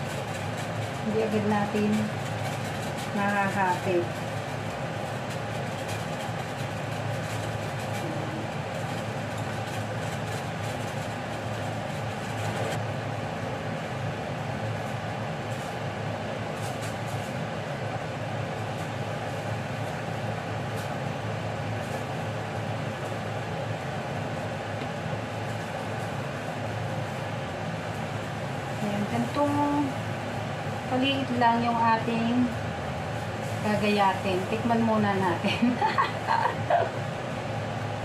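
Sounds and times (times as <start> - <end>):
appliance hum and hiss: 0.0 - 38.0.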